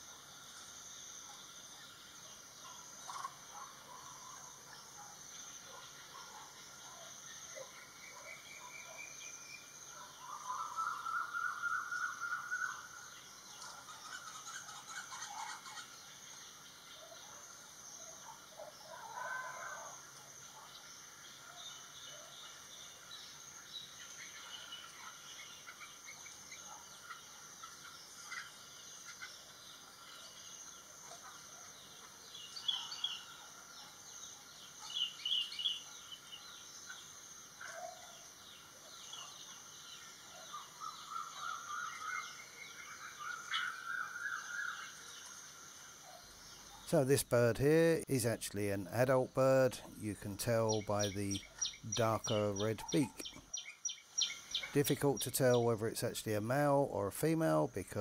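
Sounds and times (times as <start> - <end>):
birds calling and chirping: 1.3 - 58.0.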